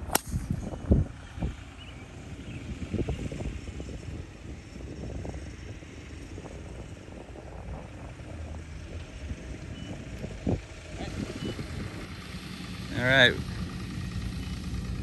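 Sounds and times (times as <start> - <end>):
golf cart rumble: 0.0 - 15.0.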